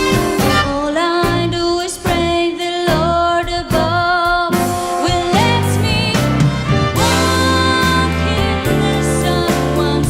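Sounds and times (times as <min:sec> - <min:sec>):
big band playing: 0:00.0 - 0:10.0.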